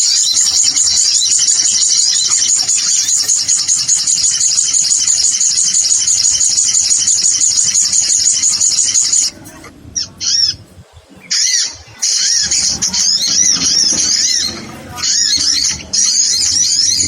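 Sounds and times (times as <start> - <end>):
bird high-pitched trill: 0.0 - 17.0
bird sharp bending call notes: 0.0 - 17.0.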